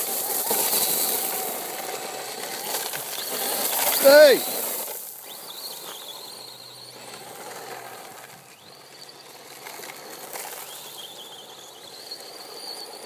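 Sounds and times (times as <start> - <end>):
electric motor whining: 0.0 - 13.0
tyres hissing on gravel: 0.0 - 13.0.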